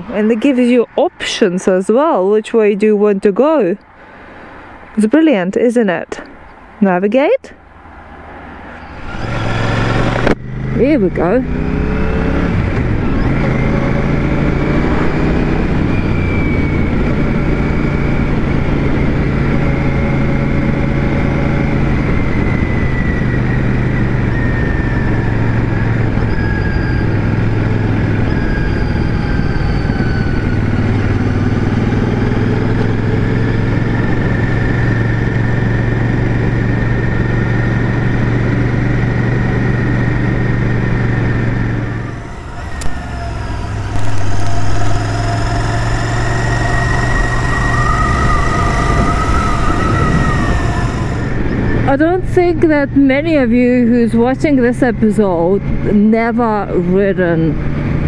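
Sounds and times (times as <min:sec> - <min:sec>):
road and wind noise: 0:00.0 - 0:58.0
motorcycle engine running: 0:09.0 - 0:58.0.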